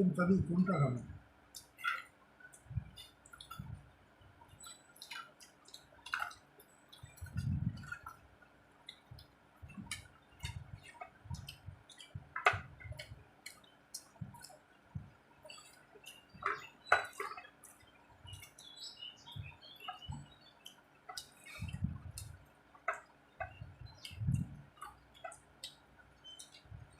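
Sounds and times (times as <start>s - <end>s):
soft low chewing thumps: 0.0s - 26.9s.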